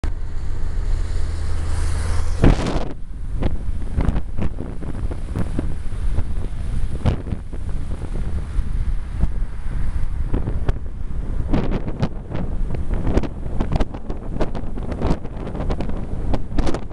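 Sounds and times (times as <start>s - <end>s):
car driving rumble: 0.0s - 16.9s
wind buffeting microphone: 0.0s - 16.9s.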